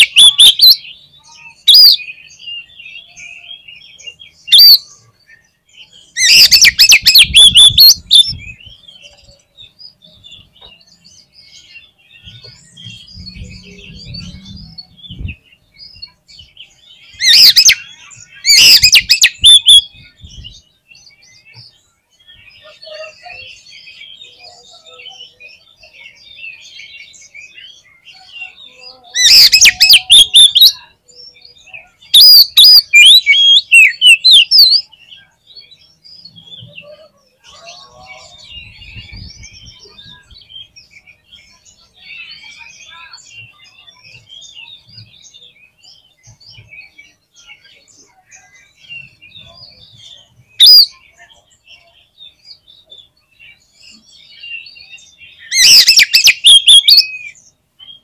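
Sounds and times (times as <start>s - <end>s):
bird song whistles: 0.0s - 36.8s, 38.3s - 58.0s
faint bird twittering: 0.0s - 58.0s.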